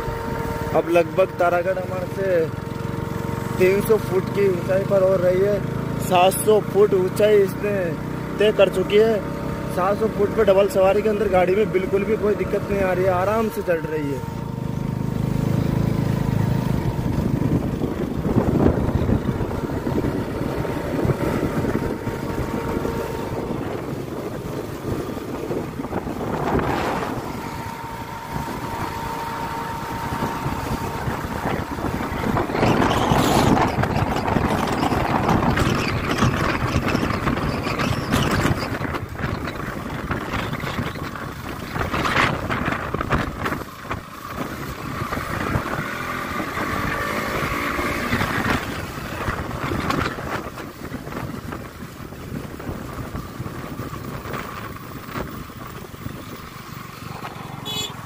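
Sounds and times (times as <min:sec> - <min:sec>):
motorcycle engine running: 0:00.0 - 0:58.0
wind buffeting microphone: 0:11.0 - 0:57.6.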